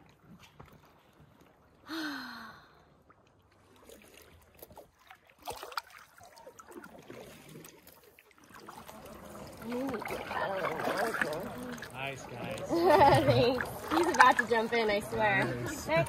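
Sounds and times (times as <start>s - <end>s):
paddle splashing in water: 0.0s - 1.8s, 3.1s - 16.0s.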